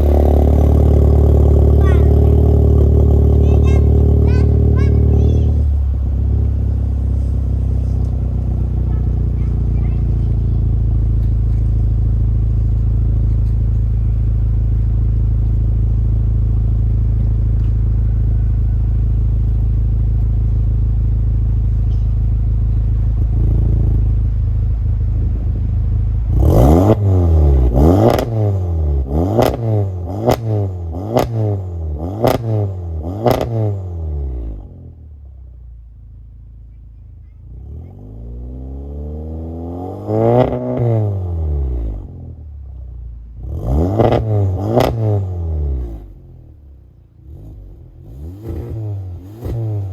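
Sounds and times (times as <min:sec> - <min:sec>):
engine revving: 0:00.0 - 0:20.2, 0:22.8 - 0:35.0, 0:37.4 - 0:42.5, 0:43.3 - 0:49.9
car engine idling: 0:00.0 - 0:49.9.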